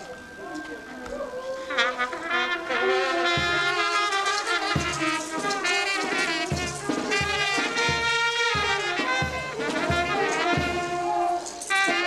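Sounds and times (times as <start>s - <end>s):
brass band playing folk dance music: 1.7s - 12.0s.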